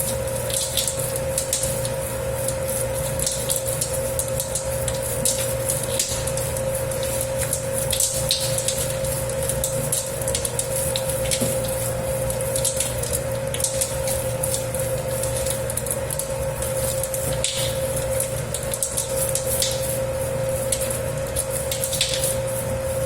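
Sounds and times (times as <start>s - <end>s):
dough kneading machine humming: 0.0s - 23.0s
dough slapping and squelching: 0.0s - 23.0s.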